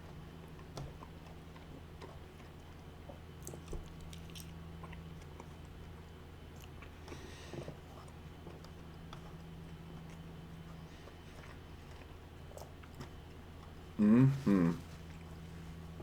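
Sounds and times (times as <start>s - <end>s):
chewing food: 0.0s - 14.0s
faint low hum: 0.0s - 16.0s.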